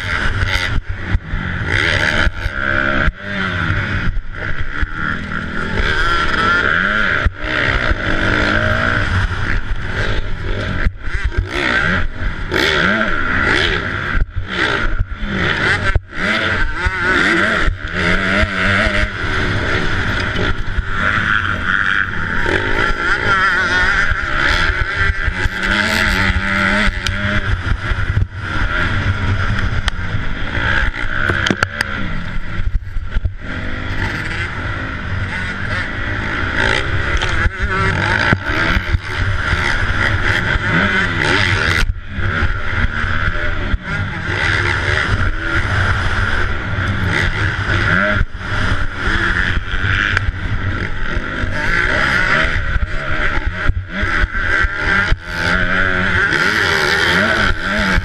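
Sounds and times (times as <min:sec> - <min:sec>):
wind rushing over camera: 0:00.0 - 0:56.4
motocross bike engine revving: 0:00.0 - 0:58.0.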